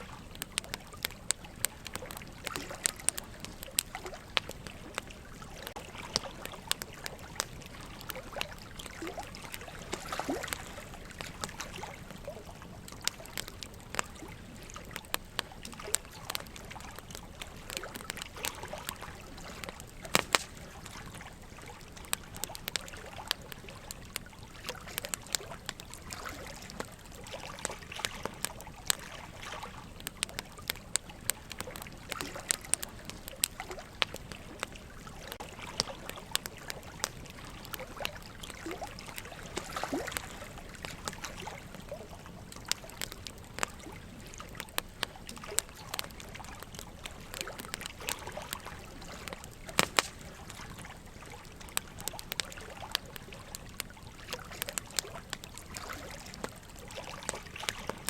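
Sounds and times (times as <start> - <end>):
running water trickling: 0.0 - 58.0
wood fire crackling and popping: 0.0 - 58.0.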